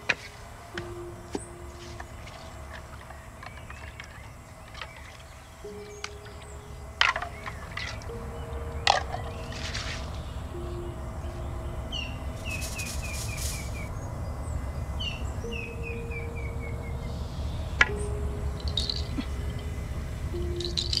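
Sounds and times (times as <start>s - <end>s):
bird chirping: 0.0s - 21.0s
steady low rumble: 0.0s - 21.0s.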